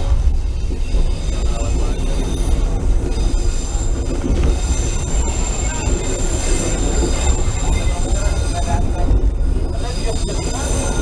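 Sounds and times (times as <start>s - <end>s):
train wheels rumbling on rails: 0.0s - 11.0s
wheels squealing on track: 0.2s - 11.0s.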